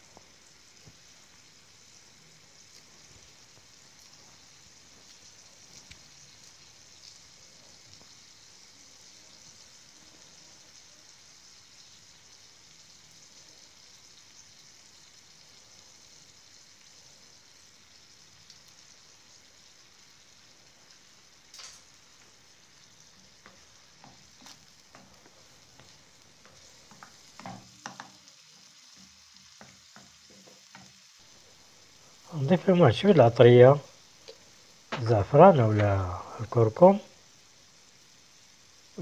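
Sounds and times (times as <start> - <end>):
meat and onions sizzling: 0.0 - 39.0.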